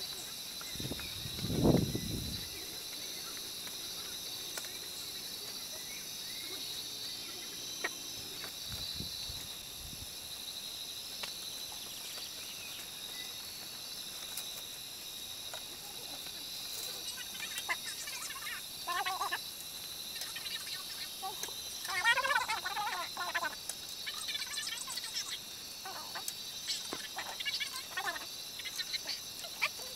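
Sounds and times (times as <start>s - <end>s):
insects buzzing: 0.0s - 29.9s.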